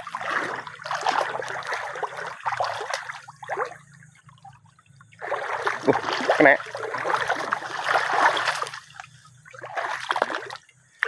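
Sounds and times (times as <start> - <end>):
river water trickling and splashing: 0.0 - 11.0.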